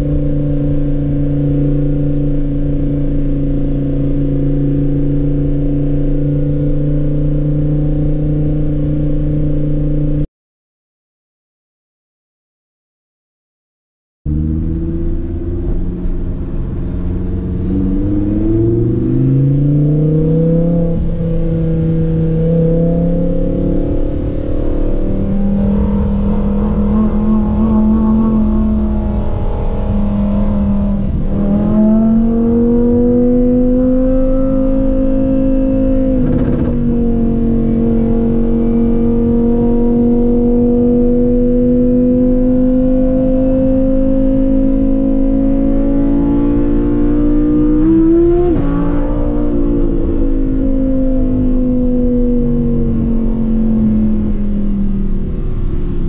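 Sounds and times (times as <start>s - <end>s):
car engine at light throttle: 0.0s - 10.2s, 14.3s - 56.0s.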